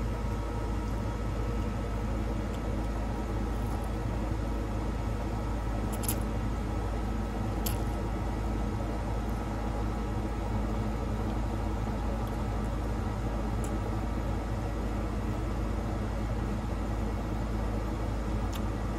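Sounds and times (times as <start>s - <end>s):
machine hum: 0.0s - 18.9s.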